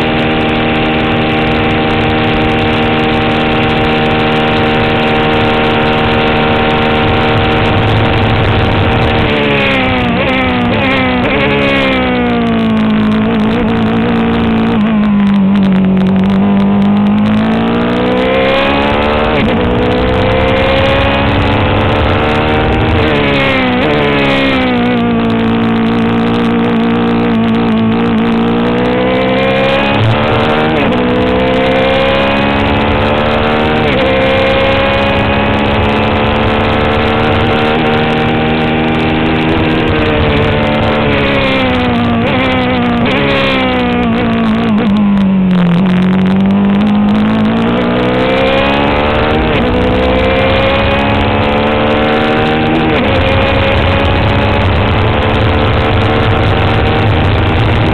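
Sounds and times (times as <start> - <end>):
race car engine at high revs: 0.0 - 57.9.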